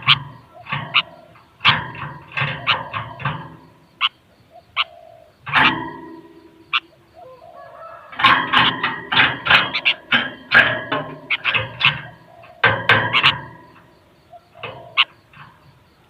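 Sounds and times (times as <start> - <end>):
bulbul chirping: 0.0 - 16.0.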